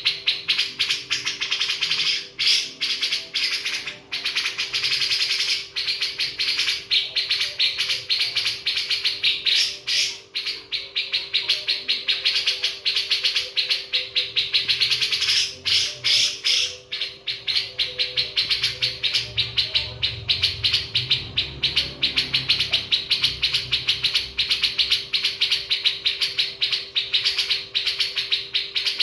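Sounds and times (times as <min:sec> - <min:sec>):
bird chirping rapidly: 0:00.0 - 0:29.0.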